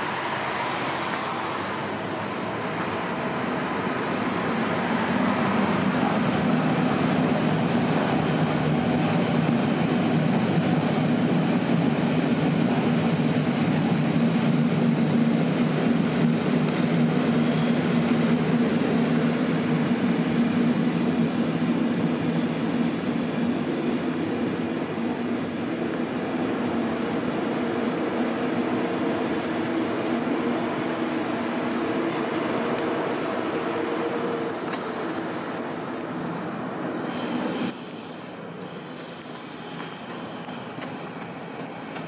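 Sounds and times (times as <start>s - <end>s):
electric train rumbling: 0.0s - 42.0s.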